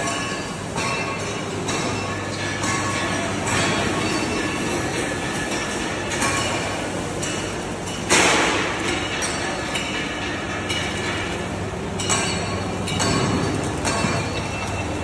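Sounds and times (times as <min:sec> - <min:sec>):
metallic clinks and knocks: 0:00.0 - 0:15.0.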